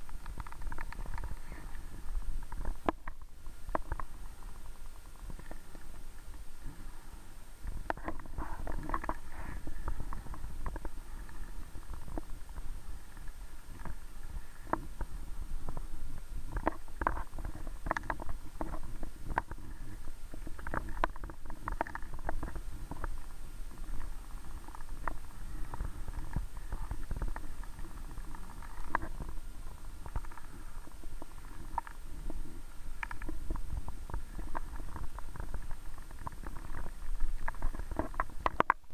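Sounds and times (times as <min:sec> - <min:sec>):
small underwater clicks: 0:00.0 - 0:06.9, 0:07.6 - 0:38.9.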